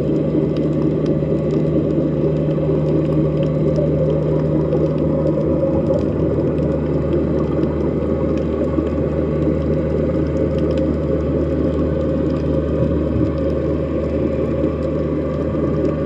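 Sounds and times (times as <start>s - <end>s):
underwater low drone: 0.0s - 16.0s.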